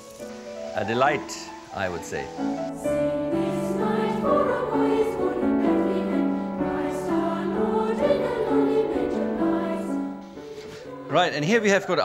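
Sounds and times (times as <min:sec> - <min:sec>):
choir singing slow held notes: 0:00.3 - 0:12.0.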